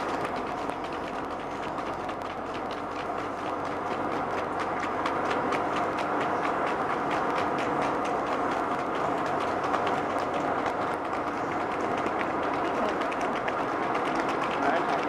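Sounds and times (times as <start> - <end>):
hoofbeats on tarmac: 0.0 - 15.0
vehicle engines and tyres: 0.0 - 15.0.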